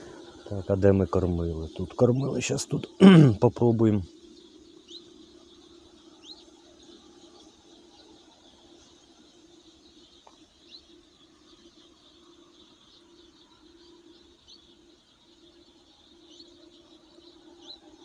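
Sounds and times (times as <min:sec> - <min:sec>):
faint low hum: 0:00.0 - 0:18.0
small bird chirping: 0:00.0 - 0:18.0.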